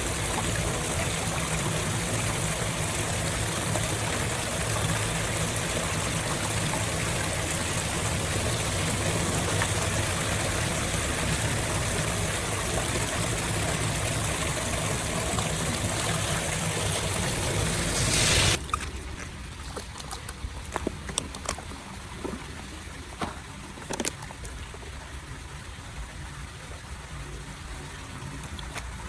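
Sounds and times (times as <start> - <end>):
water rushing into storm drain: 0.0 - 25.5.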